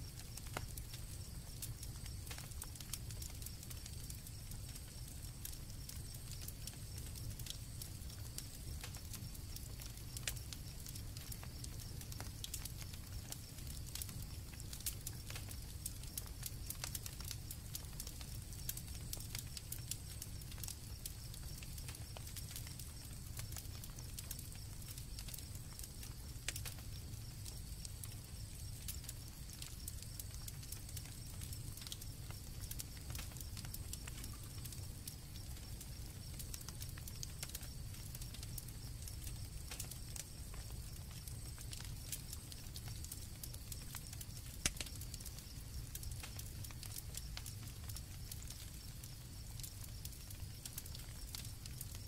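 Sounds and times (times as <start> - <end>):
campfire crackling and popping: 0.0 - 52.0
crickets chirping: 0.0 - 52.0.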